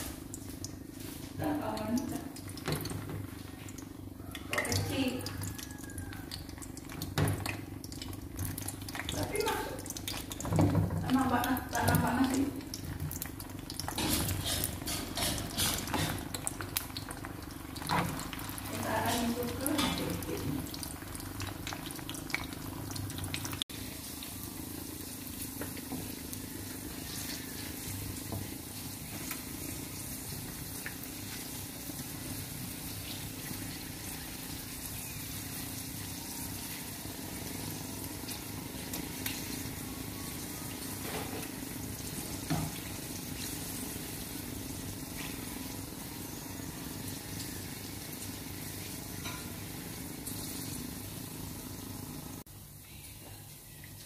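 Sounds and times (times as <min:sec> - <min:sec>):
sausage sizzling in hot oil: 0:03.7 - 0:52.5.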